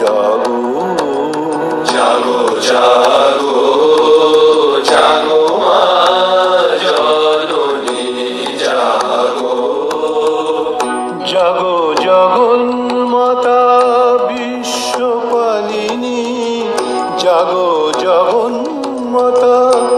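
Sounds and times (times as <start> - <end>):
instrumental accompaniment: 0.0 - 19.9
light percussion: 0.0 - 19.9
person singing chant-like melody: 0.0 - 19.9.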